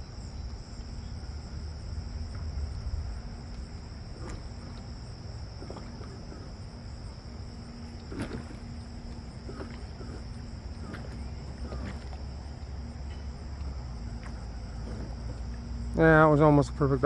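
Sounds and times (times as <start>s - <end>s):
faint hum: 0.0s - 17.0s
wind rumbling on microphone: 0.0s - 17.0s.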